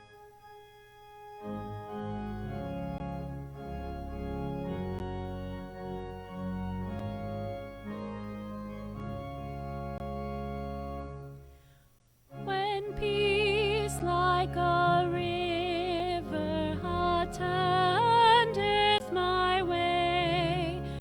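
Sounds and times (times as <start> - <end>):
organ playing sustained chords: 0.0 - 21.0.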